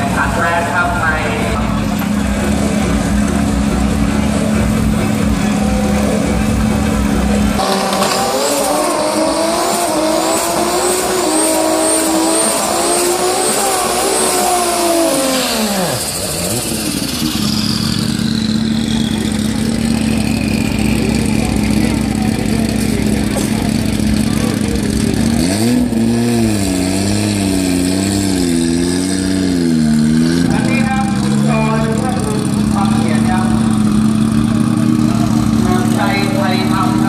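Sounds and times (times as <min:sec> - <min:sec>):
engine drone: 0:00.0 - 0:37.0
engine revving hard: 0:00.0 - 0:37.0.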